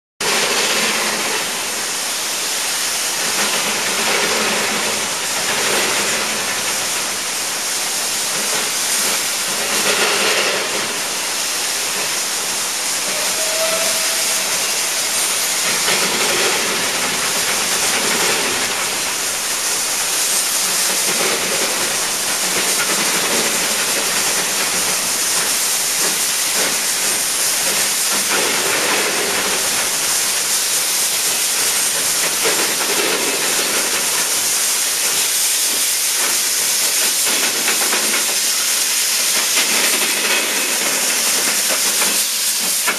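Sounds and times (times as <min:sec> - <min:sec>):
steam locomotive exhausting: 0:00.2 - 0:42.9.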